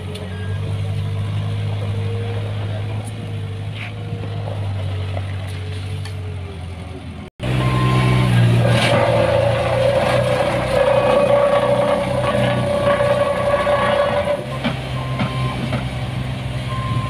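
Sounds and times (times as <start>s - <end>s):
diesel engines running: 0.0s - 17.0s
road roller engine close by: 0.0s - 17.0s.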